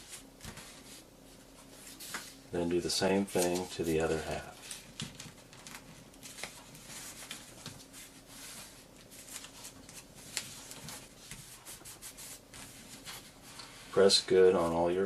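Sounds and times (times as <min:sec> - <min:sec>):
paper rustling and crinkling: 0:00.0 - 0:02.4, 0:03.1 - 0:13.8.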